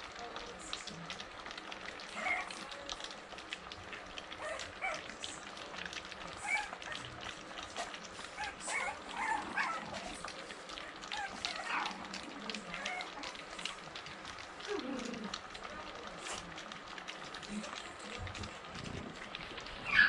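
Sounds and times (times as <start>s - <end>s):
puppies lapping food: 0.0s - 20.0s
puppies squeaking and grunting: 2.0s - 2.7s, 4.2s - 20.0s.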